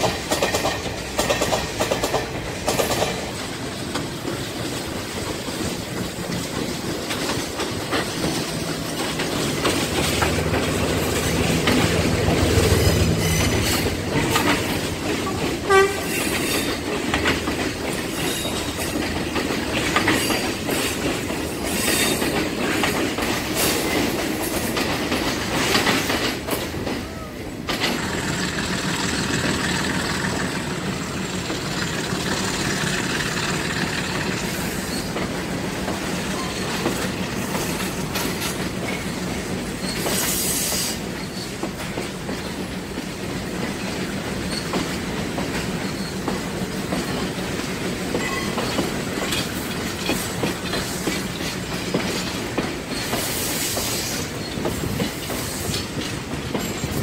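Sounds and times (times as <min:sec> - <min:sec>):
diesel train hum: 0:00.0 - 0:57.0
train wheels clicking over rail joints: 0:00.0 - 0:57.0
train wheel squeal: 0:07.2 - 0:42.6, 0:43.6 - 0:57.0.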